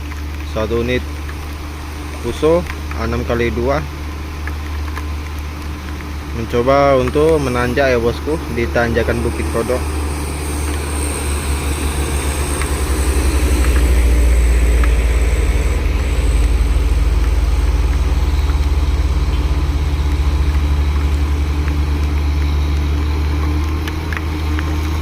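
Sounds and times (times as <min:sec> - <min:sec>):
heavy rain hissing: 0:00.0 - 0:25.0
truck diesel engine labouring: 0:00.0 - 0:25.0.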